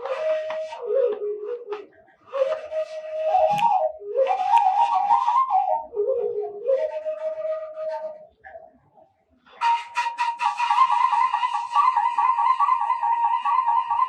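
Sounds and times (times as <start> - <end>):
breathy bamboo flute melody: 0.0 - 14.0.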